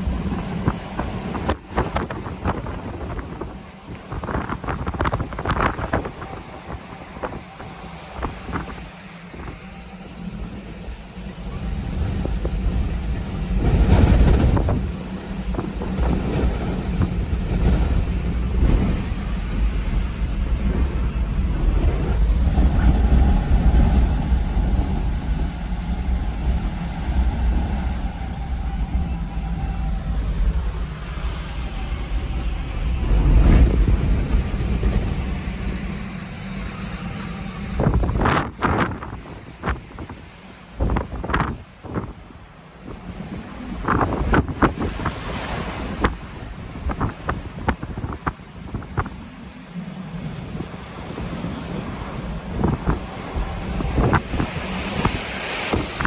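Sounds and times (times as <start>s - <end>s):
strong wind gusting: 0.0s - 56.0s
wind buffeting microphone: 0.0s - 56.0s.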